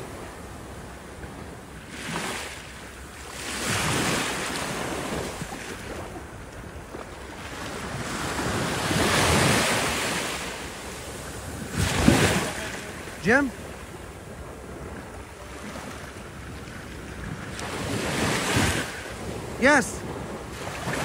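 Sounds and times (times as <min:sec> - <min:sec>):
waves washing onto shore: 0:00.0 - 0:21.0
wind buffeting microphone: 0:00.0 - 0:21.0.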